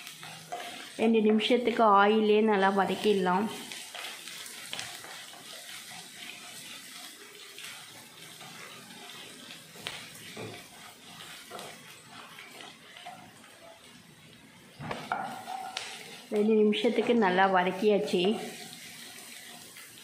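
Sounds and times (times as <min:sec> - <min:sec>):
wooden spatula scraping pan: 0:00.0 - 0:01.8, 0:02.5 - 0:13.9, 0:14.9 - 0:20.0
vegetables sizzling in oil: 0:00.0 - 0:20.0.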